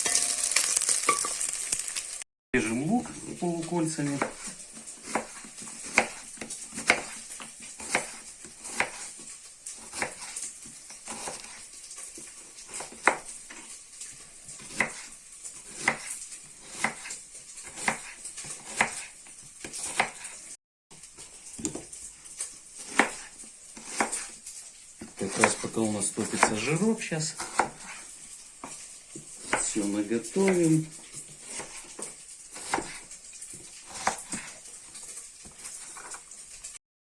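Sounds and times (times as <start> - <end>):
fat sizzling in pot: 0.0 - 36.8
knife cutting onion on board: 4.1 - 20.4, 21.6 - 36.4.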